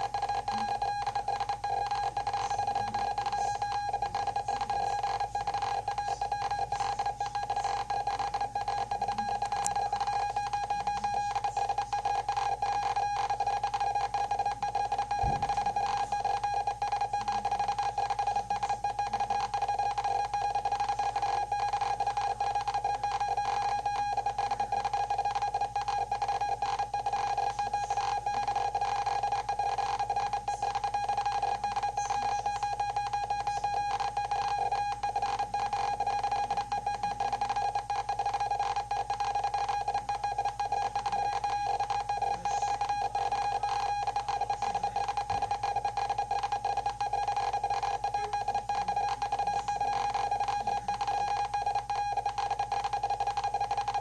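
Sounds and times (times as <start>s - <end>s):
keyed data tone flickering: 0.0s - 54.0s.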